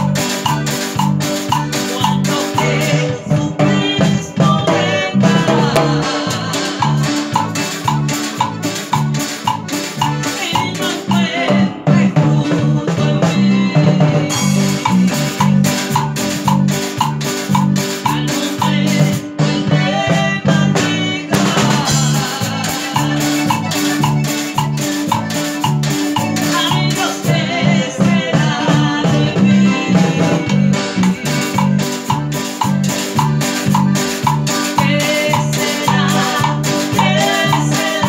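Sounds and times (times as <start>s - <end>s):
accordion: 0.0s - 38.0s
acoustic guitar: 0.0s - 38.0s
drum kit and cymbals: 0.0s - 38.0s
electric bass: 0.0s - 38.0s.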